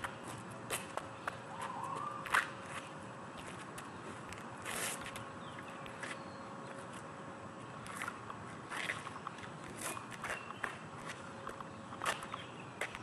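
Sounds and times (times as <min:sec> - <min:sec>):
scuffing footsteps: 0:00.0 - 0:07.1, 0:07.8 - 0:13.0
steady outdoor hiss: 0:00.0 - 0:13.0.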